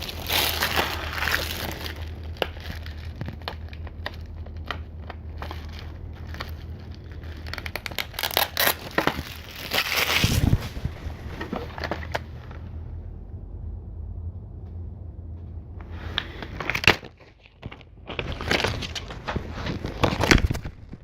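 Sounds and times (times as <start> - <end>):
plastic packaging crinkling: 0.0 - 12.7, 15.9 - 21.0.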